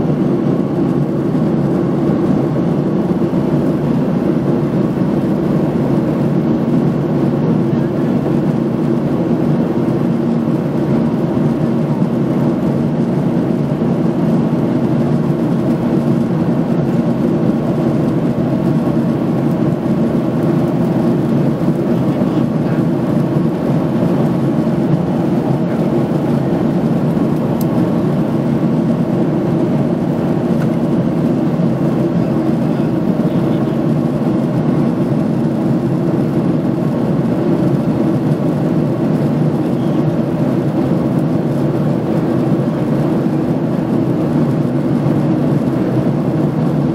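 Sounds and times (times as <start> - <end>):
jet engine and airflow in cabin: 0.0 - 46.9.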